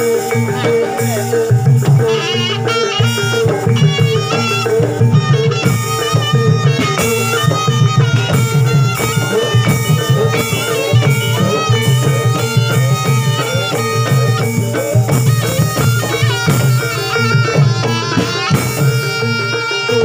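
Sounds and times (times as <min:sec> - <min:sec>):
continuous drumming: 0:00.0 - 0:20.0
shrill reed wind instrument: 0:00.0 - 0:20.0.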